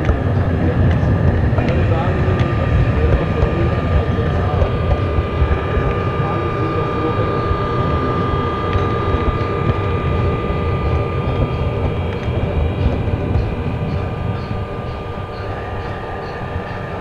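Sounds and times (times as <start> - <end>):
high whine: 0.0 - 17.0
model train wheels rumbling: 0.0 - 17.0.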